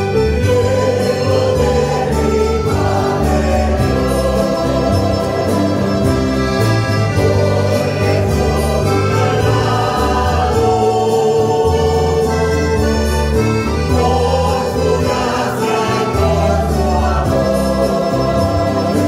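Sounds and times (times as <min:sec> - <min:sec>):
acoustic guitars: 0:00.0 - 0:19.0
choir singing a hymn: 0:00.0 - 0:19.0
electronic keyboard: 0:00.0 - 0:19.0.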